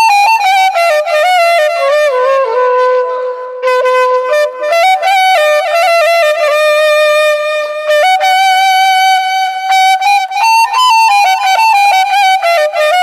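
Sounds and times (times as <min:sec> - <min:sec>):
solo flute-like melody: 0:00.0 - 0:13.0.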